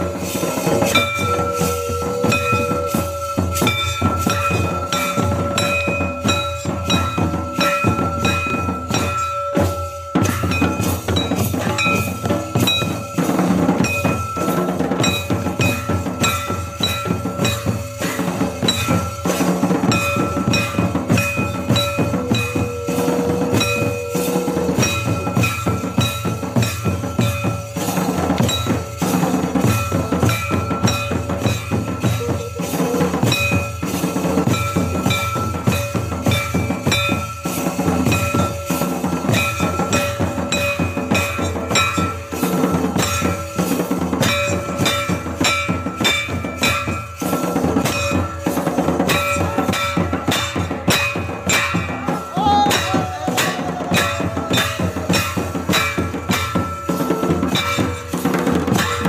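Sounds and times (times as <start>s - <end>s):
drums beating driving rhythm: 0.0s - 59.0s
high held tone: 0.0s - 59.0s.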